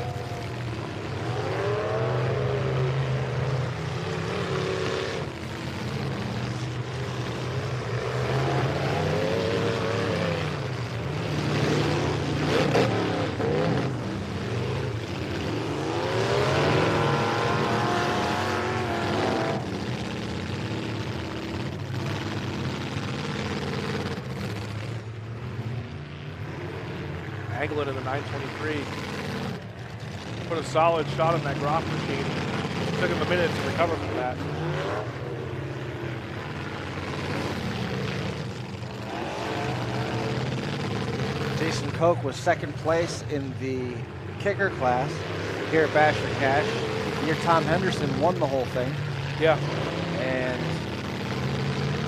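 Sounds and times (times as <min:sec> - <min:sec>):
engines idling: 0:00.0 - 0:52.0
truck engines revving: 0:00.0 - 0:52.0.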